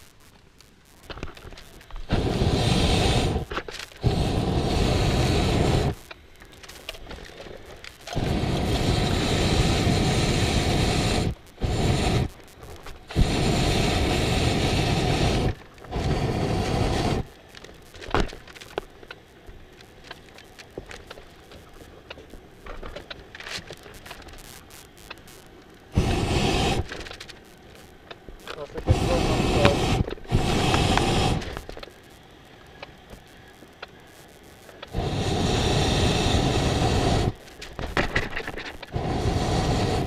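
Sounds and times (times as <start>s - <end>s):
propane burner blasts: 1.0s - 22.2s, 25.0s - 27.4s, 28.0s - 32.0s, 34.7s - 40.0s.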